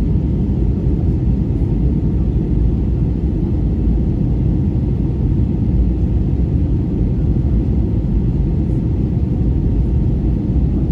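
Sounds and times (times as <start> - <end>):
airliner cabin rumble: 0.0 - 10.9.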